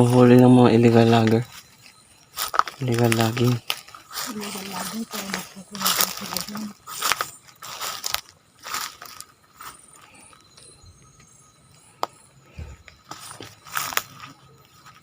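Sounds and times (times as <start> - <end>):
footsteps crunching on dry litter: 0.0 - 10.5, 12.6 - 15.0.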